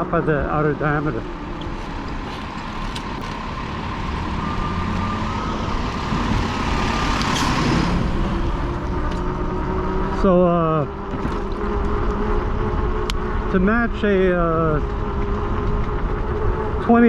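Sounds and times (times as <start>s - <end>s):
bike road noise: 0.0s - 17.0s.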